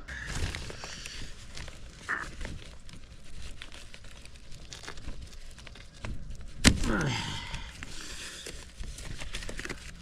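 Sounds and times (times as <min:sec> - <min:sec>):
plastic sheeting crinkling: 0:00.0 - 0:10.0.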